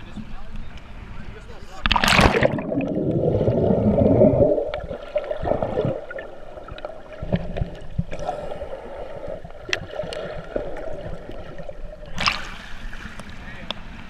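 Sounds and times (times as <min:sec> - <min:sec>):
underwater churning and gurgling: 0:01.8 - 0:14.0
underwater hum: 0:01.8 - 0:14.0.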